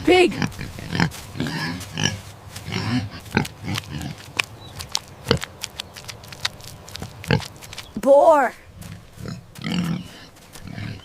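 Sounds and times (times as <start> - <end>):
pig grunting softly: 0.3 - 7.5, 8.9 - 11.0.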